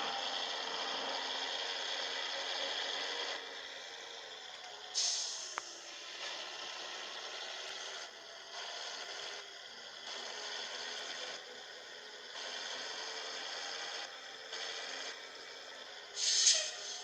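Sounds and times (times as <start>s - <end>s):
truck road noise rushing: 0.0s - 17.0s.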